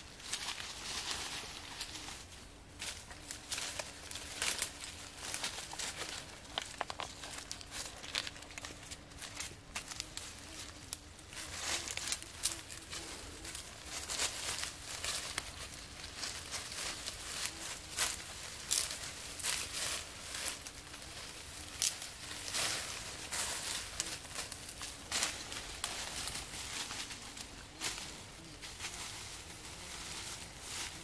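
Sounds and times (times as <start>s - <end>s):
bare feet crunching dry leaves: 0.0s - 31.0s.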